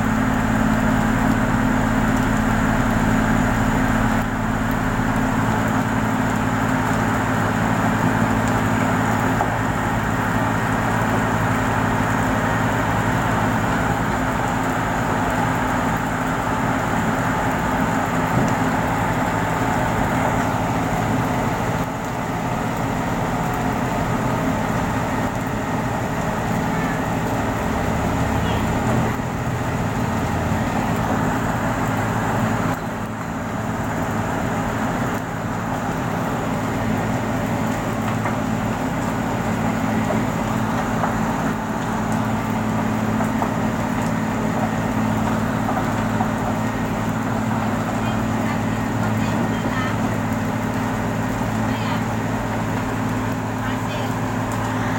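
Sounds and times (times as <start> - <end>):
large engine humming: 0.0 - 54.9.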